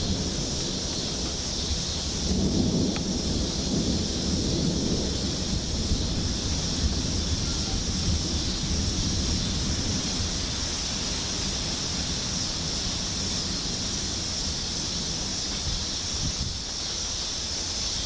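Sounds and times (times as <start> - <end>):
thunder rumbling: 0.0 - 17.7
steady hiss: 0.0 - 18.0
storm wind buffeting microphone: 0.0 - 18.0.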